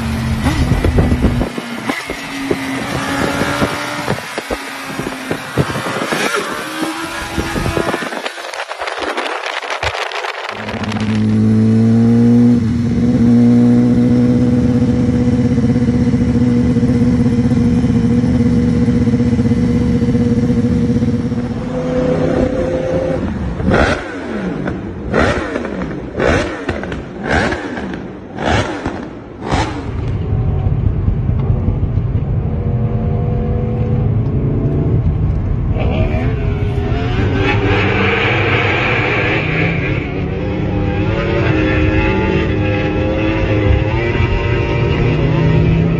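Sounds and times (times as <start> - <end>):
motorcycle engine cruising: 0.0 - 45.9
motorcycle engines droning: 0.0 - 45.9.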